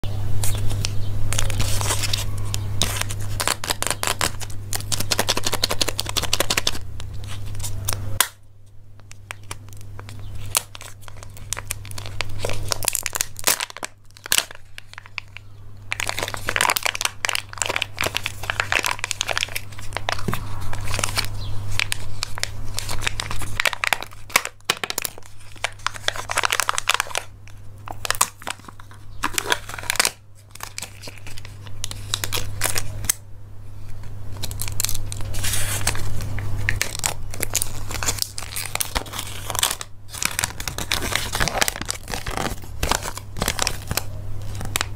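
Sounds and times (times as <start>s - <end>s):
low steady hum: 0.0s - 44.9s
foil wrapper crinkling and tearing: 0.4s - 8.4s, 9.0s - 33.2s, 33.8s - 44.9s
plastic film crackling: 0.4s - 8.4s, 9.0s - 33.2s, 33.8s - 44.9s.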